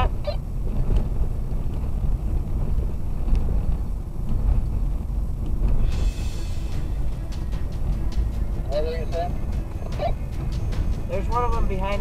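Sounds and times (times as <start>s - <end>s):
tyres and engine rumble on dirt: 0.0s - 12.0s.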